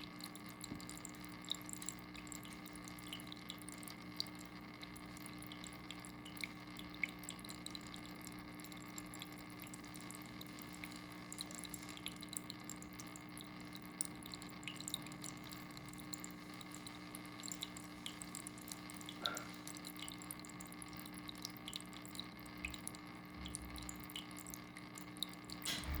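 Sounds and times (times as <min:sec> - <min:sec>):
faint steady hum: 0:00.0 - 0:26.0
water dripping: 0:00.0 - 0:26.0.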